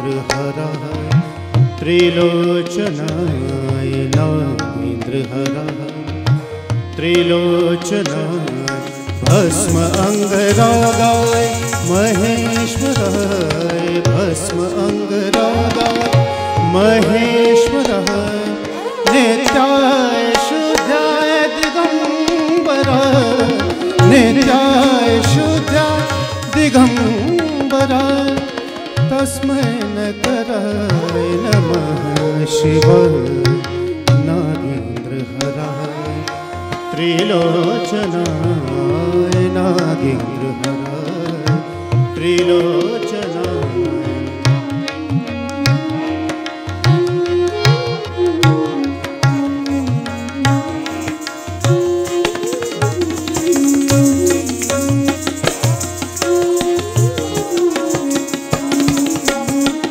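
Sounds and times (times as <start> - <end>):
tabla playing: 0.0 - 59.9
person singing gliding melody: 7.0 - 44.7, 46.9 - 59.9.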